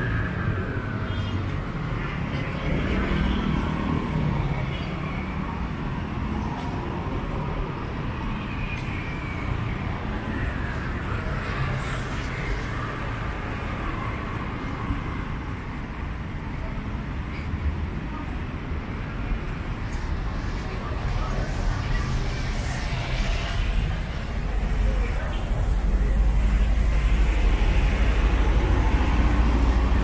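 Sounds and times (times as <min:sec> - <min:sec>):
traffic rumble: 0:00.0 - 0:30.0
vehicles passing by: 0:00.0 - 0:30.0.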